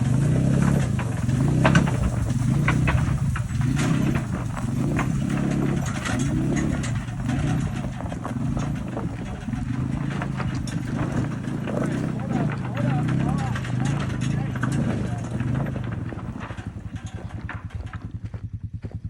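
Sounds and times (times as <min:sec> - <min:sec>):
rattles and knocks: 0:00.0 - 0:18.8
vehicle engine running under load: 0:00.0 - 0:19.0.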